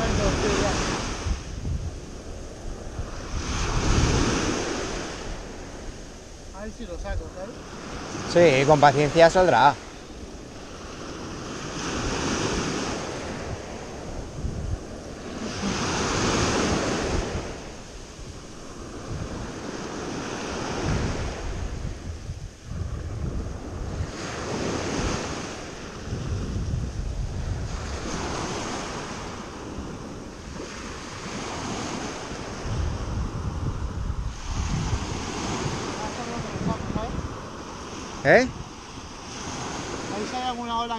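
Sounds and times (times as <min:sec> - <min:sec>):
small waves breaking on shore: 0:00.0 - 0:40.9
wind buffeting microphone: 0:00.0 - 0:40.9.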